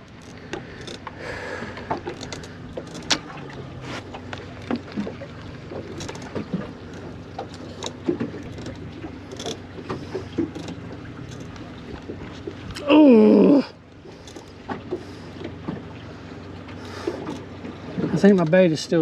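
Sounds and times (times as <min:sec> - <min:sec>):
steady low hum: 0:00.0 - 0:18.4
water slapping hull: 0:00.0 - 0:19.0.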